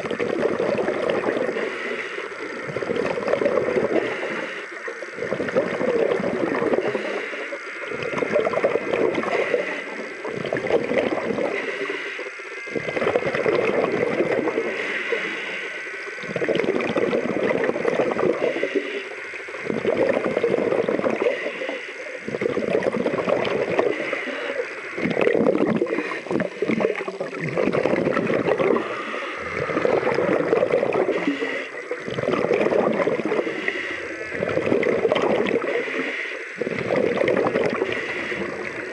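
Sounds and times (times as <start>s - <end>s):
rush of bubbles: 0.0s - 1.8s, 2.5s - 11.7s, 12.7s - 15.3s, 16.2s - 18.6s, 19.4s - 21.7s, 22.3s - 38.9s
diver breathing through regulator: 0.0s - 38.9s.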